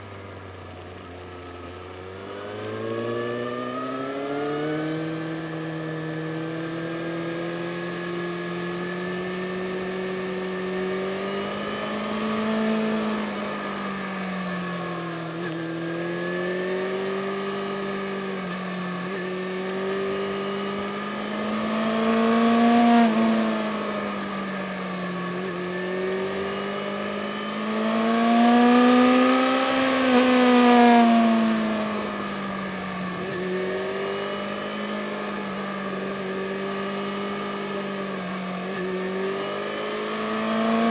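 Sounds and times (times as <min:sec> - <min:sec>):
motorcycle engine revving: 0:01.7 - 0:40.9.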